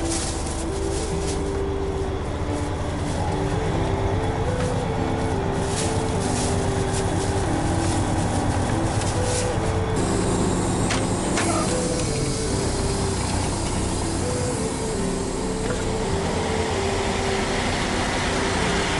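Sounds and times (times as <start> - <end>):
plastic bag crackling: 0.0 - 16.3
diesel truck engine idling: 0.0 - 18.9
simple stepping melody: 0.0 - 18.9.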